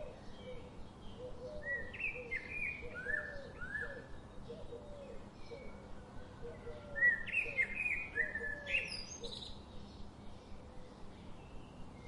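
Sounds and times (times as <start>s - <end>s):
birds singing and chirping: 0.0s - 12.0s.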